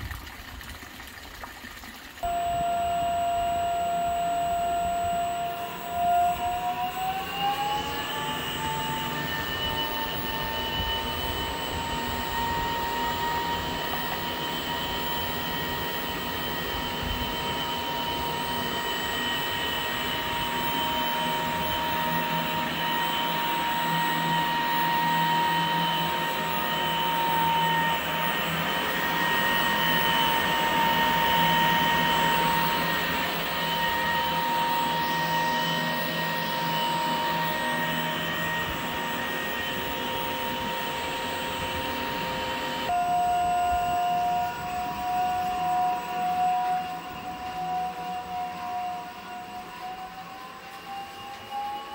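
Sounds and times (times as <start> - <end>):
pump motor humming: 0.0 - 51.8
electric whine: 2.2 - 51.9.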